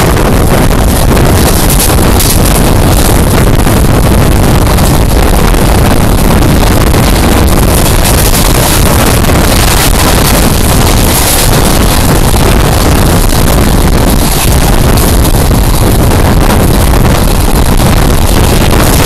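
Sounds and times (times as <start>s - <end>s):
train running at speed: 0.0s - 19.0s
wind buffeting microphone: 0.0s - 19.0s.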